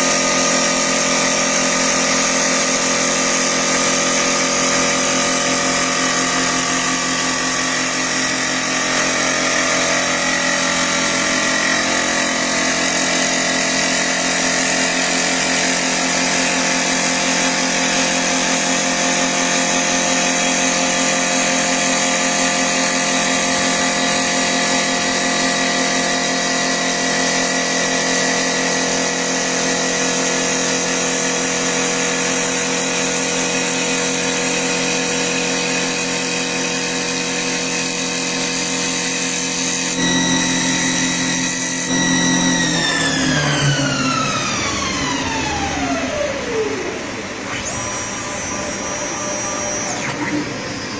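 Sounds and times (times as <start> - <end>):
wood lathe machine whine: 0.0 - 50.9.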